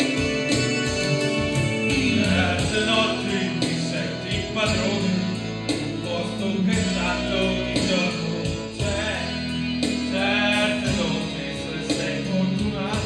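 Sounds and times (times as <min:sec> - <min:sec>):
backing track with steady beat: 0:00.0 - 0:13.0
man singing into microphone: 0:00.0 - 0:13.0.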